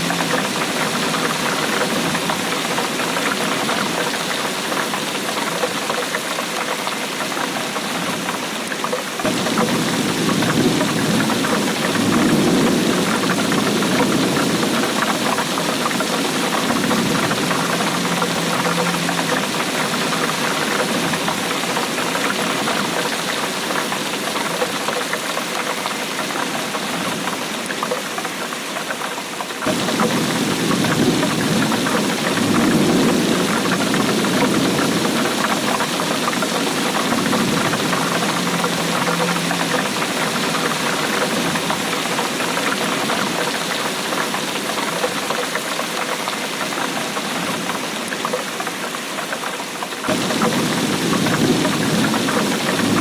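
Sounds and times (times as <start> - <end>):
heavy rain on hard surface: 0.0 - 53.0.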